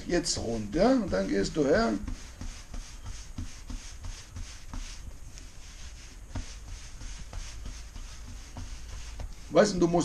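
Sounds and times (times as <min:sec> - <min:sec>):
hands rubbing dough: 0:00.0 - 0:10.0
light pats on dough: 0:00.0 - 0:10.0.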